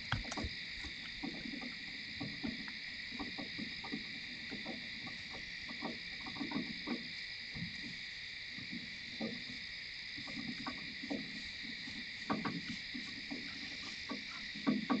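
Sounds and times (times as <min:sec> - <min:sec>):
night insects droning: 0:00.0 - 0:15.0.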